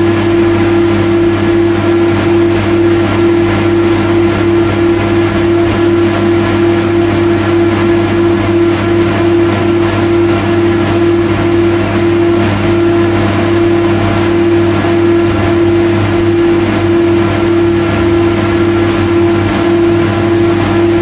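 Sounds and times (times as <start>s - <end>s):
loud machine hum: 0.0s - 21.0s
mechanical rumble: 0.0s - 21.0s.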